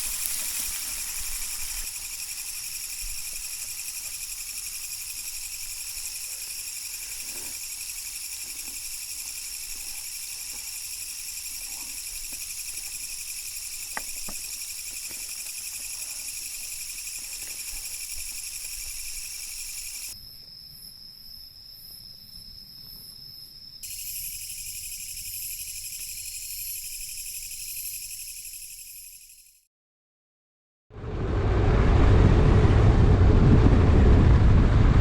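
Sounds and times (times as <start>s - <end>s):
crickets trilling: 0.0s - 29.6s.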